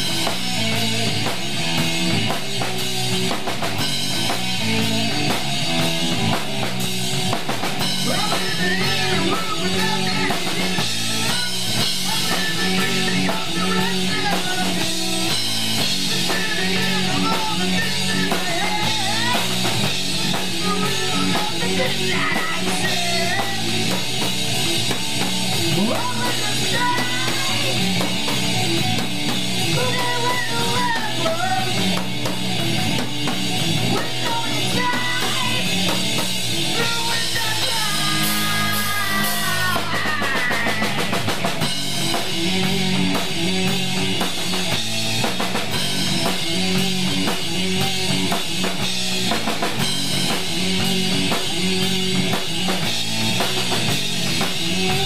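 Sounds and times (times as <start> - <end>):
drum kit: 0.0 - 55.0
electric bass: 0.0 - 55.0
electric guitar lead: 0.0 - 55.0.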